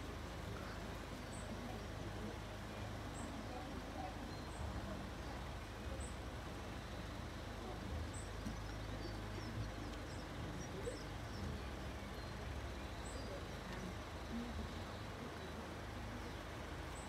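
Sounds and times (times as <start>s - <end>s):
low steady outdoor rumble: 0.0s - 17.0s
small birds chirping: 0.0s - 17.0s.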